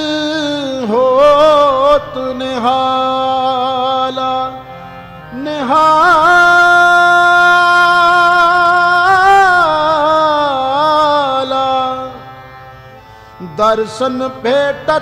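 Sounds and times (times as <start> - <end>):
man singing long held notes: 0.0 - 12.3, 13.4 - 15.0
harmonium: 0.0 - 15.0.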